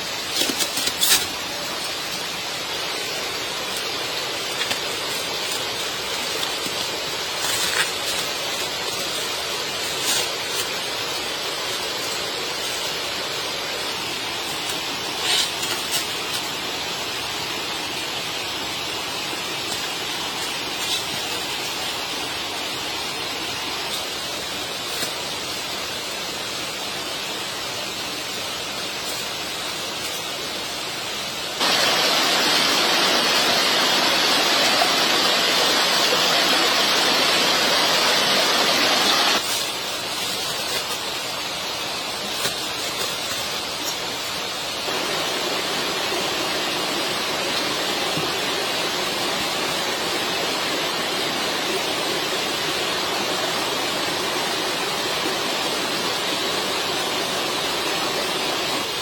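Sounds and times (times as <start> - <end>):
steady rushing noise: 0.0 - 59.0.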